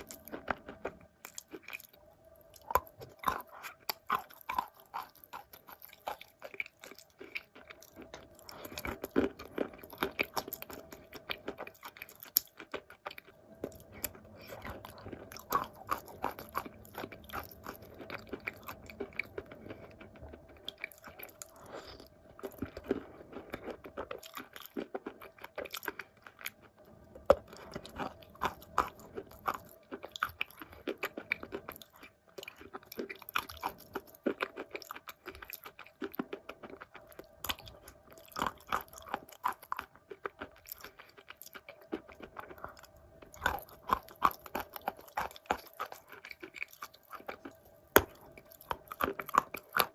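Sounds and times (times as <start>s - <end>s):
chewing wet clay: 0.0s - 49.9s
faint steady hum: 0.0s - 49.9s.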